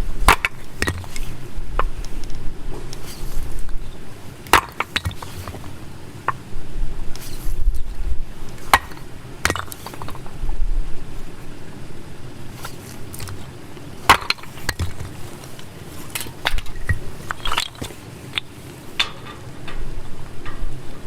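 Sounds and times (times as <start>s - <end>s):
campfire wood crackling: 0.0s - 21.0s
low steady rumble: 0.0s - 21.0s.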